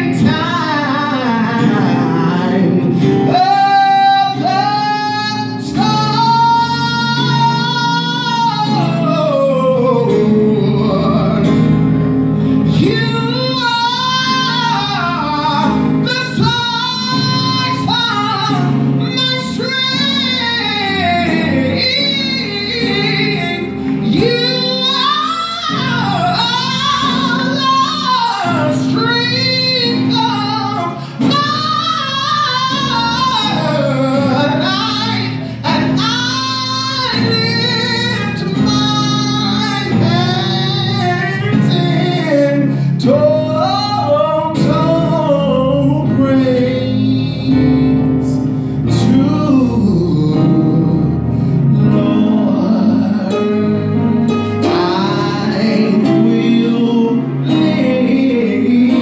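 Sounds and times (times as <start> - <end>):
electronic keyboard chords: 0.0 - 59.0
man singing gospel: 0.0 - 59.0.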